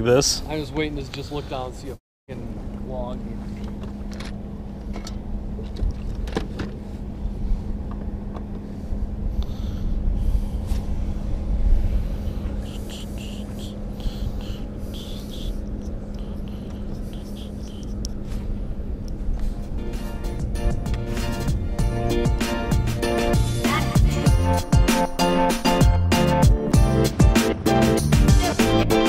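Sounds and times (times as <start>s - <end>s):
steady low hum: 0.3s - 28.4s.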